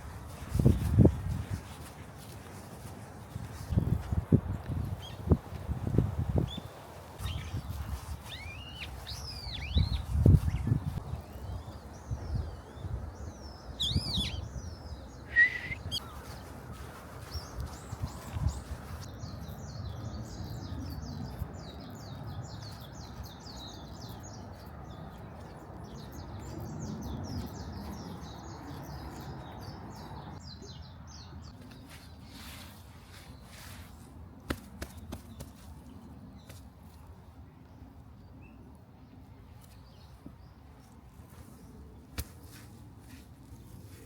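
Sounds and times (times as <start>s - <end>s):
steady outdoor hiss: 0.0s - 44.0s
songbirds chirping: 4.6s - 44.0s.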